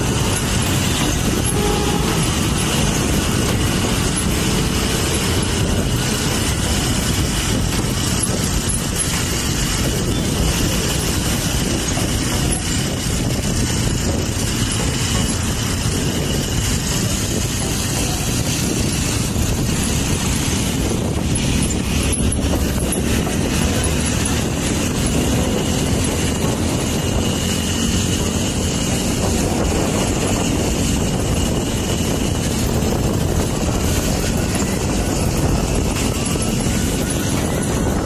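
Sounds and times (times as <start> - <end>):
motorcycle engine running: 0.0 - 38.0
road noise: 0.0 - 38.0
wind rush on microphone: 0.0 - 38.0.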